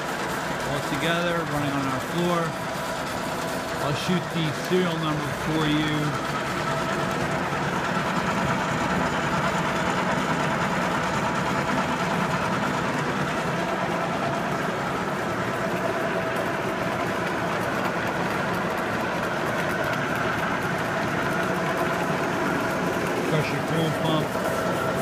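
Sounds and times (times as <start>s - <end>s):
lathe motor and gearing drone: 0.0s - 25.0s.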